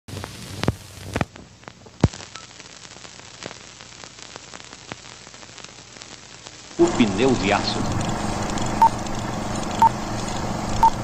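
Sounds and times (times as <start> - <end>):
crackling clicks and pops: 0.1 - 11.0
record surface hiss: 0.1 - 11.0.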